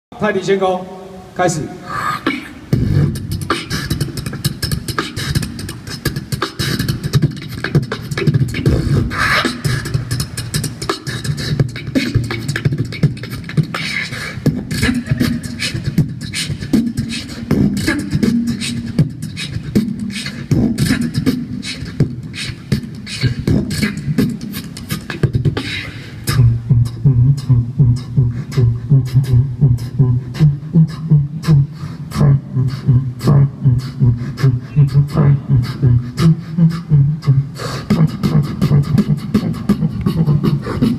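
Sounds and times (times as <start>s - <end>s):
man beatboxing into a microphone: 0.1s - 40.9s.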